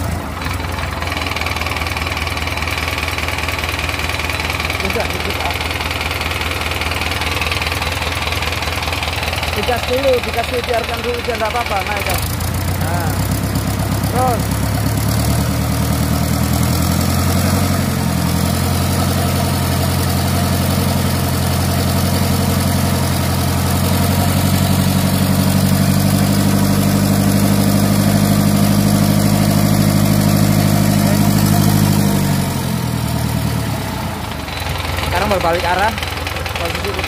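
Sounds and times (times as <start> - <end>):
marine diesel engine drone: 0.0 - 37.0.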